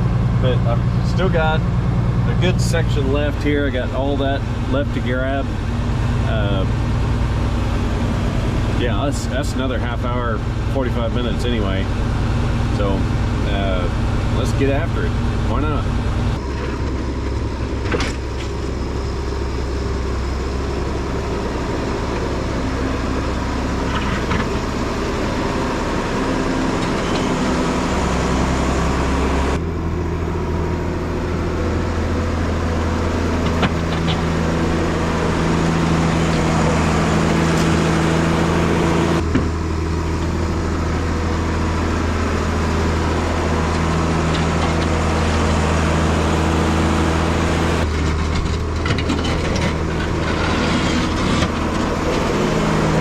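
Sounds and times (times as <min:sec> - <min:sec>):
snow-clearing machine engine running: 0:00.0 - 0:53.0.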